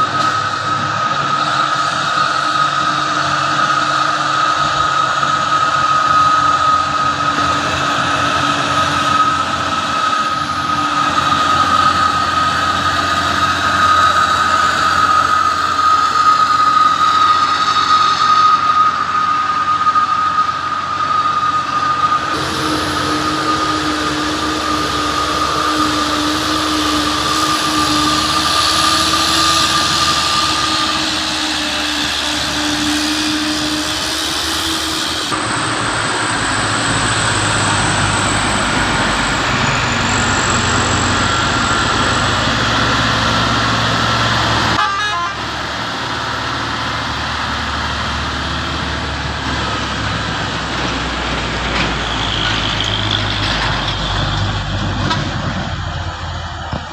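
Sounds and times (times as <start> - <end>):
heavy diesel trucks climbing: 0.0 - 56.9
high engine whine: 0.0 - 56.9.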